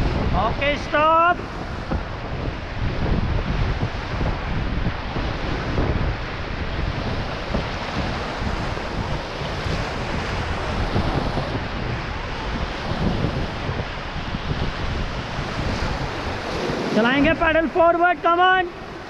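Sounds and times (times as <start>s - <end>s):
whitewater rushing: 0.0s - 19.0s
wind buffeting microphone: 0.0s - 19.0s.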